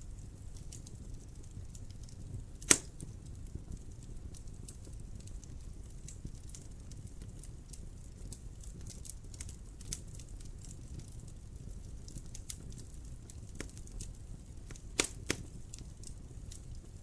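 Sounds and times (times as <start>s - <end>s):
burning wood popping: 0.0s - 17.0s
fire crackles: 0.0s - 17.0s
fire flames rumbling: 0.0s - 17.0s.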